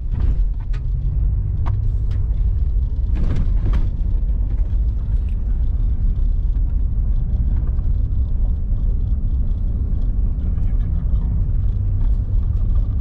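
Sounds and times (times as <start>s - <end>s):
car rumbling over dirt trail: 0.0s - 13.0s
knocks and rattles: 0.0s - 13.0s.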